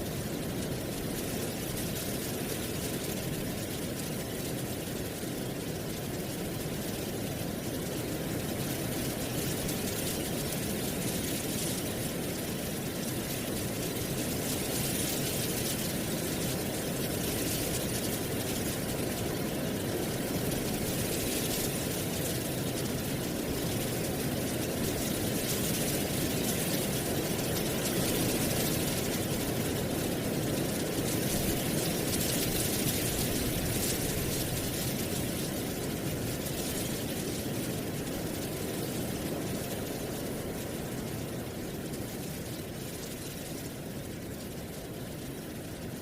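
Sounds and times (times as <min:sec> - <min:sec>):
wind rustling dry leaves: 0:00.0 - 0:46.0.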